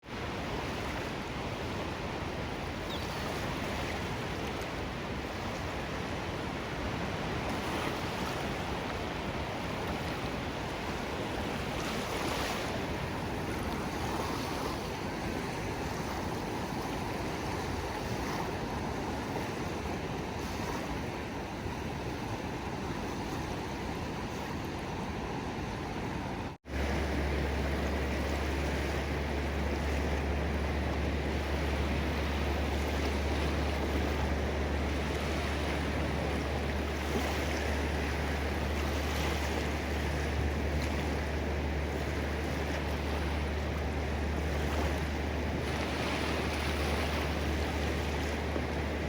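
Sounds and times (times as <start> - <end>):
ocean waves washing onto shore: 0.0 - 49.0.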